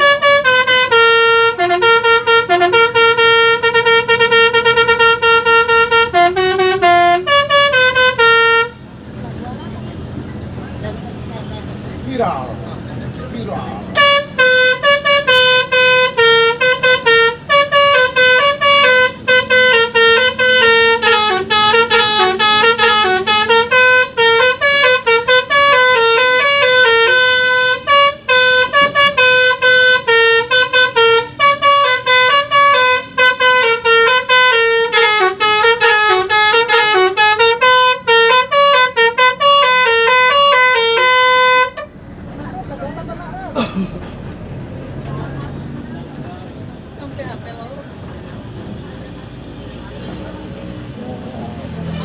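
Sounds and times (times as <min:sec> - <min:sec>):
bus musical air horn tune: 0:00.0 - 0:10.3, 0:12.5 - 0:44.4.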